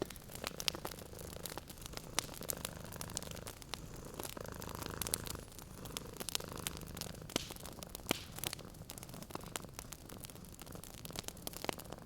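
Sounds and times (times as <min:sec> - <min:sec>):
cat purring: 0:00.0 - 0:12.0
wood fire crackling: 0:00.0 - 0:12.0.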